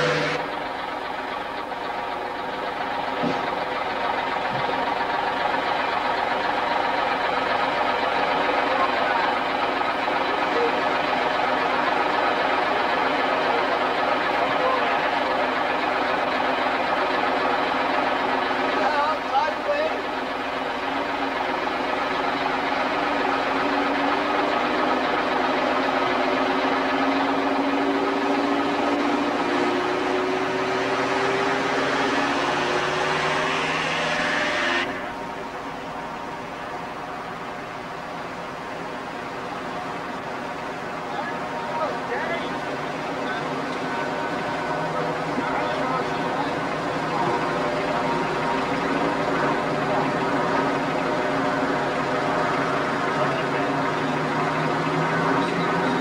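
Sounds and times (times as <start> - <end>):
van engine running: 0.0 - 56.0.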